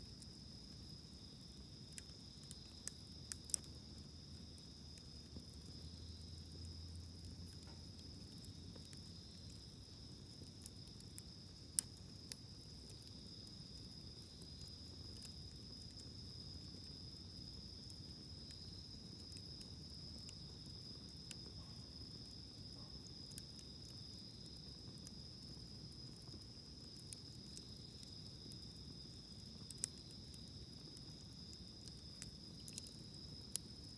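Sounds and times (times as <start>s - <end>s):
campfire crackling: 0.0s - 33.9s
insects chirring: 0.0s - 33.9s.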